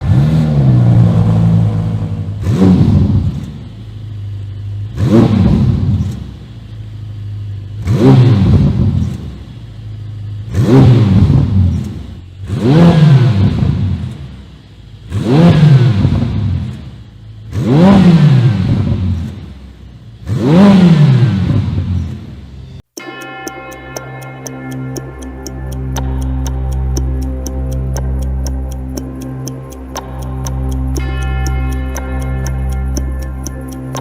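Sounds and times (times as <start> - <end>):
car engine revving from idle: 0.0 - 22.7, 24.9 - 34.0.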